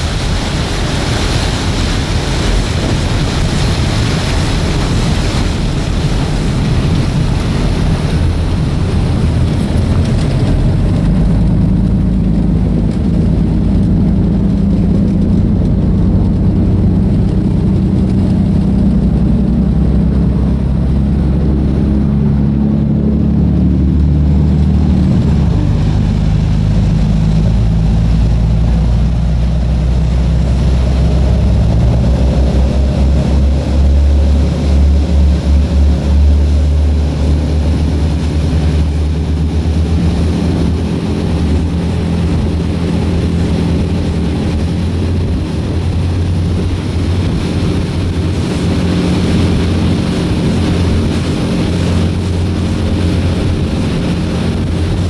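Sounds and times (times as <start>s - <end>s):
boat engine drone: 0.0s - 55.0s
rush of churning wake: 0.0s - 55.0s.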